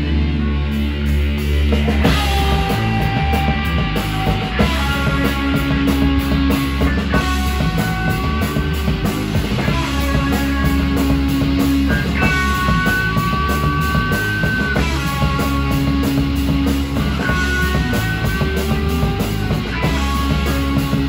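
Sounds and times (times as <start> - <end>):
high held guitar notes: 0.0 - 21.0
rock band playing: 0.0 - 21.0.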